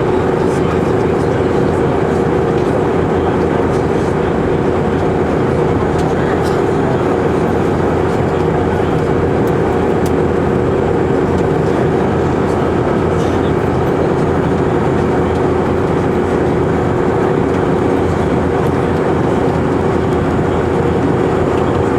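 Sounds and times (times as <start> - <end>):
airplane cabin hum: 0.0 - 21.9.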